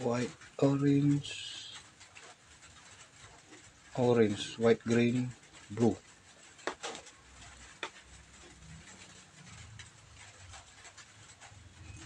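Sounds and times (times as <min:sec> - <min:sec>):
faint ticks of cable wires: 0:00.0 - 0:12.0.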